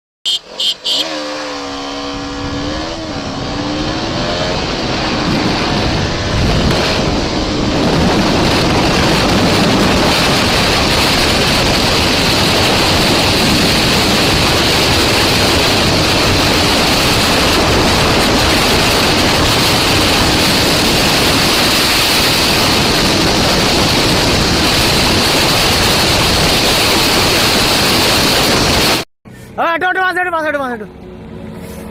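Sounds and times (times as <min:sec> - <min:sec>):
motorcycle engine: 0:00.2 - 0:31.9
wind noise rushing: 0:01.1 - 0:29.0.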